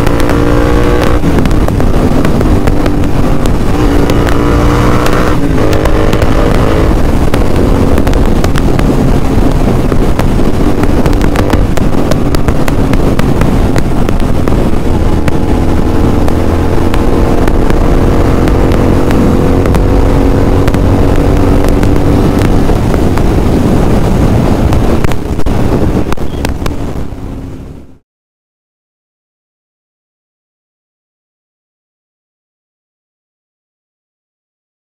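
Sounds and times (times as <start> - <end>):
motorcycle engine cruising: 0.0 - 28.0
wind rush: 0.0 - 28.0.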